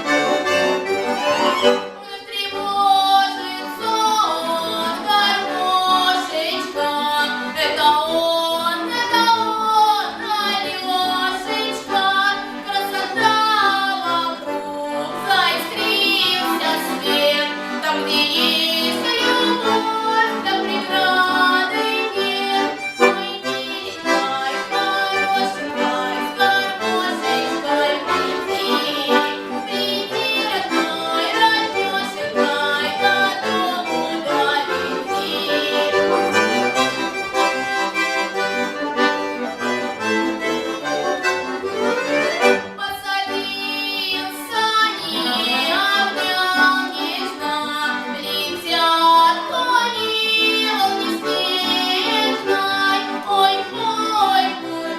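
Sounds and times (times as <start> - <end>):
accordion playing folk melody: 0.0 - 54.9.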